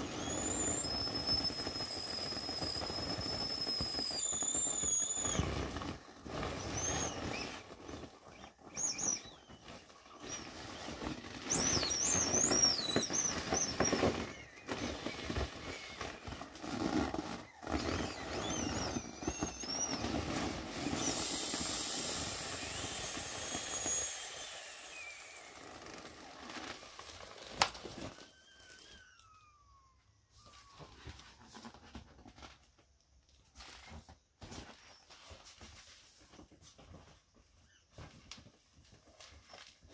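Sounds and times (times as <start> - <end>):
inflatable vinyl toys squeaking: 0.0 - 32.0.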